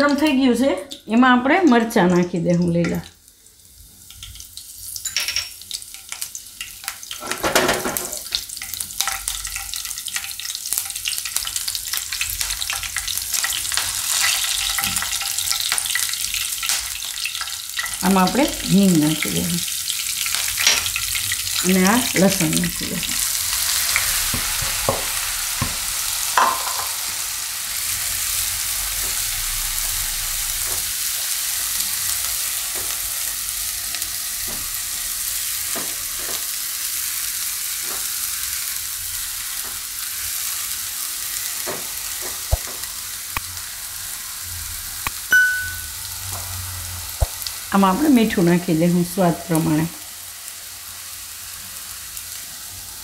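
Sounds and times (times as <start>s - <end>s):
garlic sizzling in hot fat: 0.0s - 53.0s.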